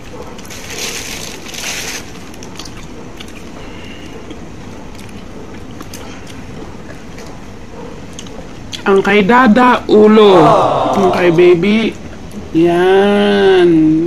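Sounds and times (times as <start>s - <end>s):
steady background hum and hiss: 0.0s - 14.0s.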